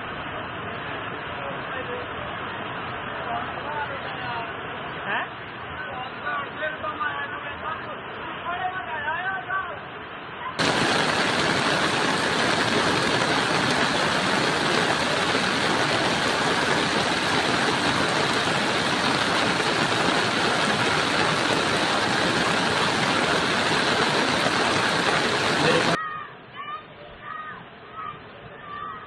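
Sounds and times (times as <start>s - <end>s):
torrent of water rushing: 0.0s - 26.0s.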